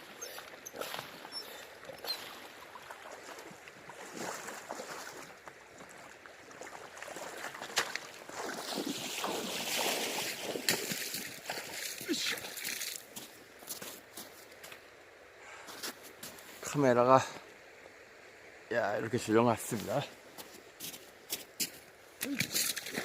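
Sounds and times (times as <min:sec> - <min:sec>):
river water splashing: 0:00.0 - 0:23.0.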